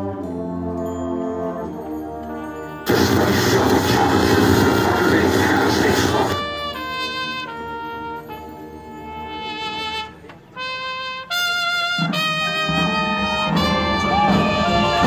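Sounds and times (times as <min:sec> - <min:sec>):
low brass: 0:00.0 - 0:15.0
marching band brass: 0:00.0 - 0:15.0.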